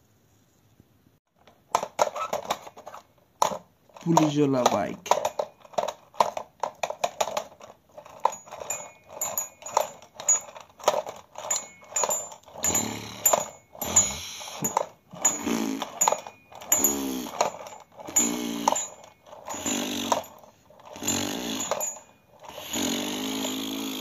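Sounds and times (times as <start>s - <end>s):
toy wheel gearing whirring: 1.7s - 24.0s.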